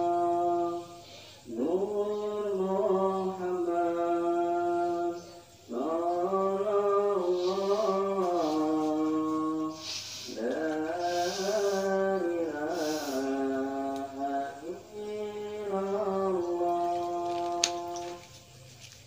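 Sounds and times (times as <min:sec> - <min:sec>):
person chanting: 0:00.0 - 0:18.5.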